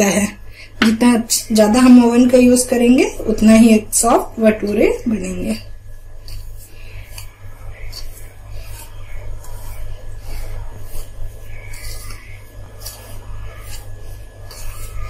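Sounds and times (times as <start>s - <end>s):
low steady hum: 0.0s - 15.0s
hand rubbing flour in steel bowl: 1.0s - 15.0s.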